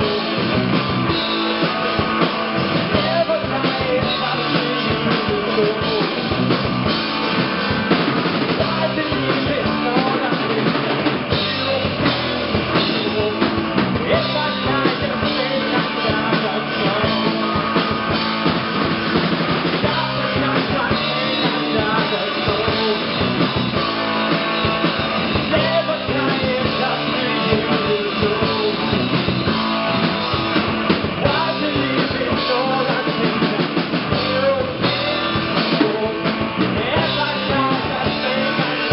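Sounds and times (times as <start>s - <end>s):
bass guitar: 0.0s - 38.9s
drum kit: 0.0s - 38.9s
guitars: 0.0s - 38.9s.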